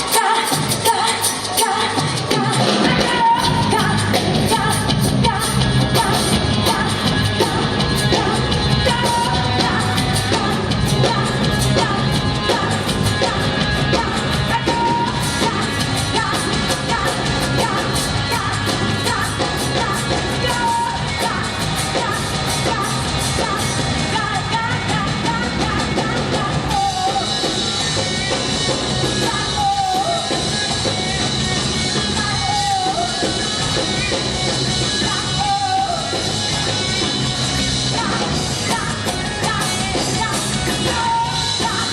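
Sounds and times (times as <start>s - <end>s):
rock-pop music with singer: 0.0s - 41.9s.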